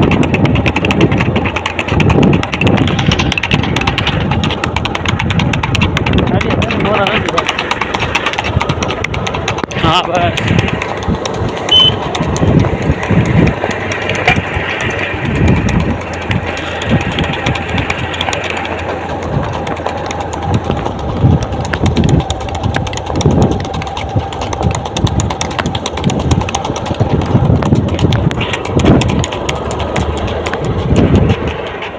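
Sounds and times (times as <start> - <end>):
horse hoofbeats thudding: 0.0 - 31.9
vehicle engine humming: 0.0 - 31.9.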